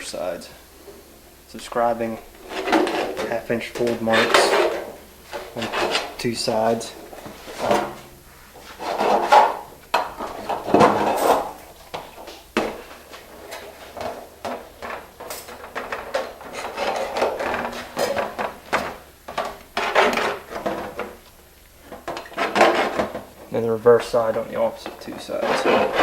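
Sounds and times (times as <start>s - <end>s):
sheet copper scraping and rubbing: 0.0s - 26.0s.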